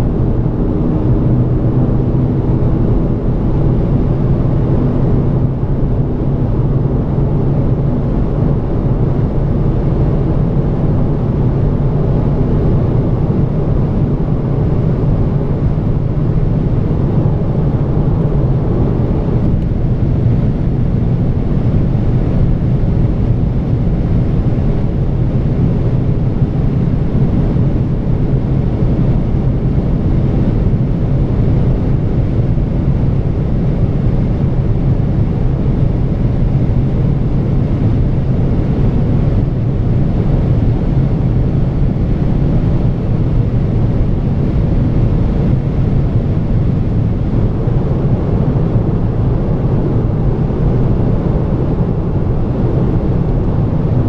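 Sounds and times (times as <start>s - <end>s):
low car engine drone: 0.0s - 54.0s
wind noise: 0.0s - 54.0s.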